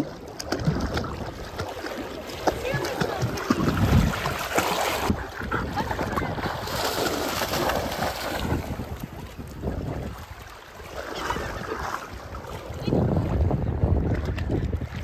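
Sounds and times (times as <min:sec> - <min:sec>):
water splashing and sloshing: 0:00.0 - 0:15.0
wind buffeting microphone: 0:00.0 - 0:15.0.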